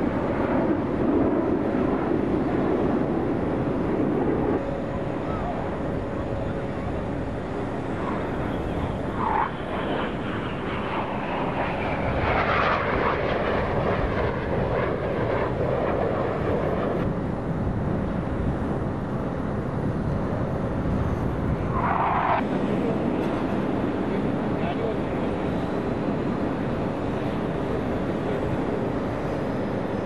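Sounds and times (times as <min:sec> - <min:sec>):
jet aircraft roaring overhead: 0:00.0 - 0:30.0.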